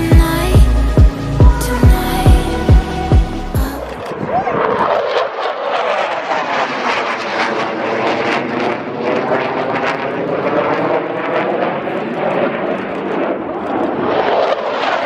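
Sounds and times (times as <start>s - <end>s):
aircraft engine rush: 0.0s - 15.0s.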